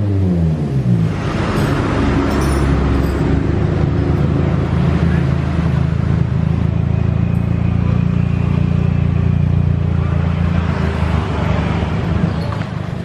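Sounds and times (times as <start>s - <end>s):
car engine idling: 0.2s - 13.0s.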